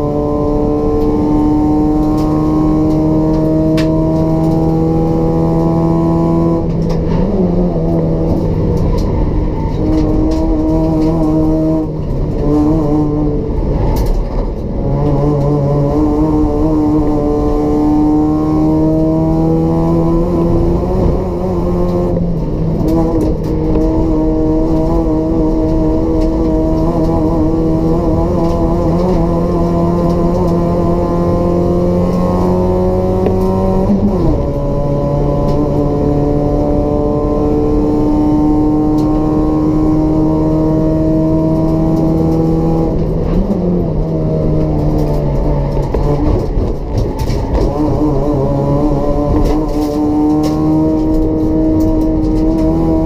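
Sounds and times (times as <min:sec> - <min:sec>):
car engine at high revs: 0:00.0 - 0:53.0.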